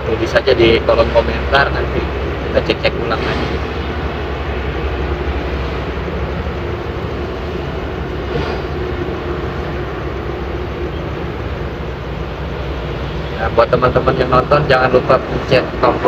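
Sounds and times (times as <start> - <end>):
traffic drone: 0.0 - 16.0.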